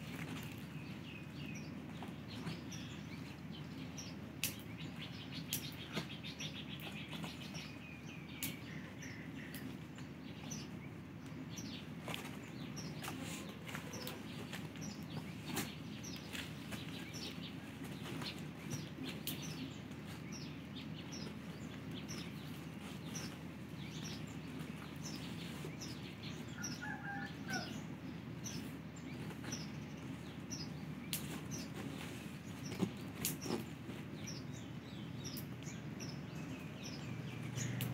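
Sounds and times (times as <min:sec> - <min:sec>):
low background noise: 0:00.0 - 0:37.9
small birds chirping: 0:00.0 - 0:37.9.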